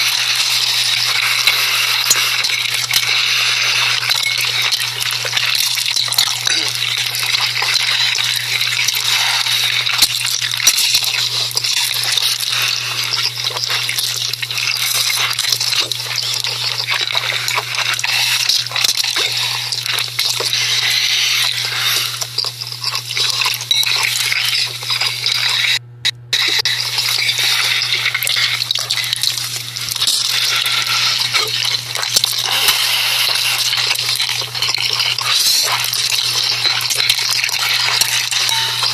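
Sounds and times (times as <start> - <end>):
wet crackly eating sounds: 0.0 - 25.8, 26.4 - 38.9
steady low hum: 0.0 - 38.9.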